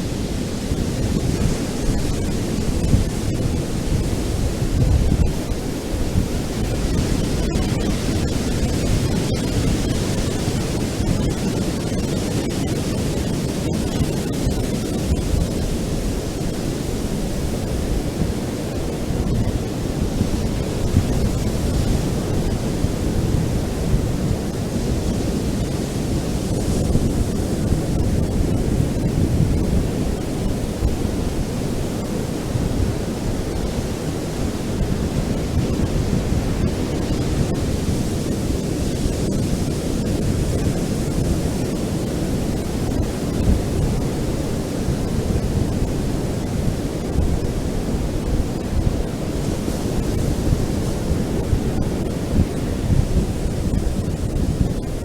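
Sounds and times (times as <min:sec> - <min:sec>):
ocean surf washing on beach: 0:00.0 - 0:55.0.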